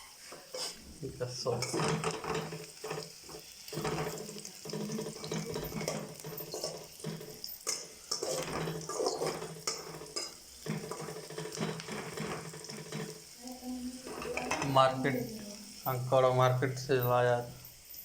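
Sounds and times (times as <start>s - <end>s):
onions sizzling in a pan: 0.0s - 18.0s
utensil clinking and scraping pan: 0.0s - 18.0s.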